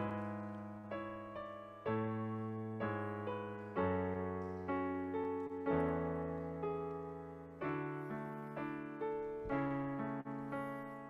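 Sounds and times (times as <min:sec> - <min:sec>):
slow gentle piano chords: 0:00.0 - 0:11.0.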